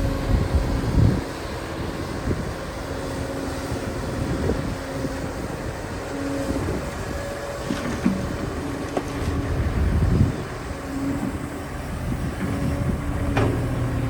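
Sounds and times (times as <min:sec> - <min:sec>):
diesel engine low rumble: 0:00.0 - 0:14.0.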